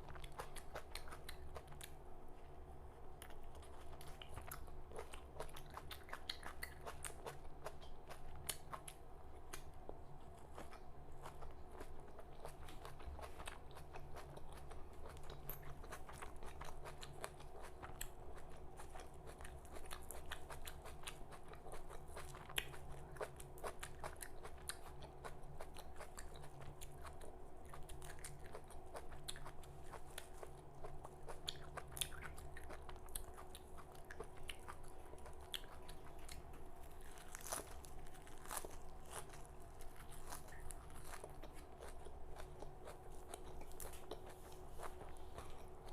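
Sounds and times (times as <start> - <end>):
crunching and chewing leaves: 0.0 - 2.0, 3.2 - 45.9
faint steady hum: 0.0 - 45.9.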